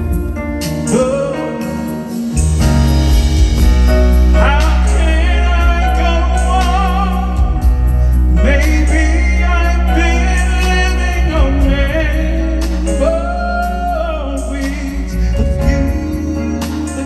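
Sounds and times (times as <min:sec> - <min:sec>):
grand piano: 0:00.0 - 0:17.0
soul ballad by live band: 0:00.0 - 0:17.0
deep sustained bass line: 0:02.4 - 0:16.6.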